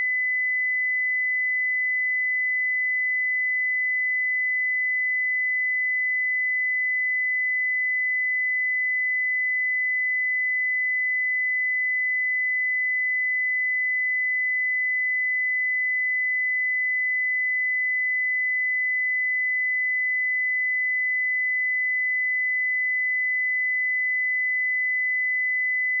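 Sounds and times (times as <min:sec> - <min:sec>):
high-pitched sine tone: 0:00.0 - 0:26.0.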